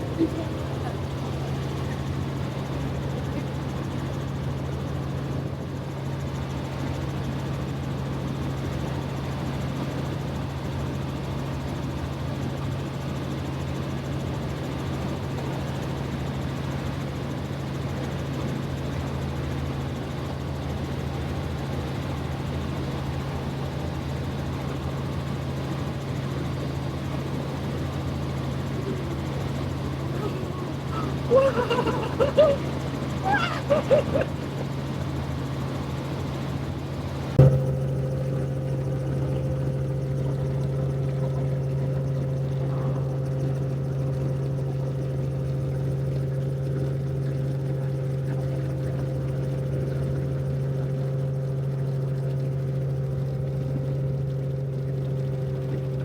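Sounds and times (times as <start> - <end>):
helicopter cabin noise: 0.0 - 56.0.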